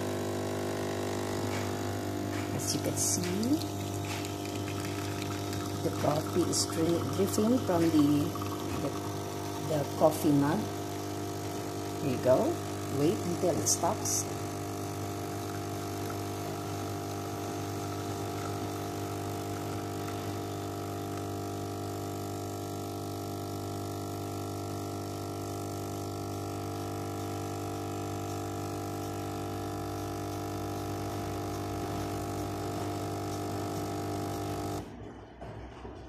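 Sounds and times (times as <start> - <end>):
espresso machine pump buzzing: 0.0 - 34.9.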